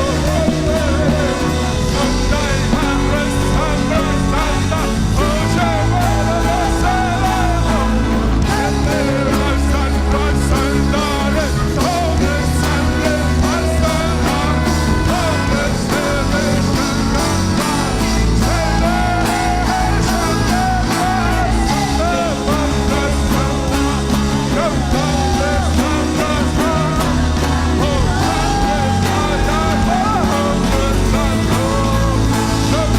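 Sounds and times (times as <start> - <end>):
band playing worship music: 0.0 - 32.9
person singing: 0.0 - 32.9.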